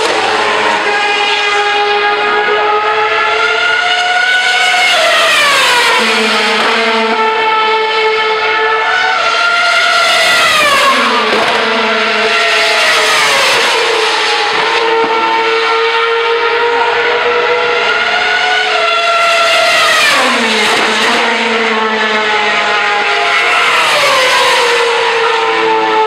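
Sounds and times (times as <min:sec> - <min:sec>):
racing cars passing at high revs: 0:00.0 - 0:26.0.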